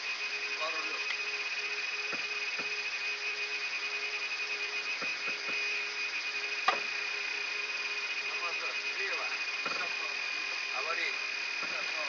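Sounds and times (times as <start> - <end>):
high whine: 0.0 - 12.0.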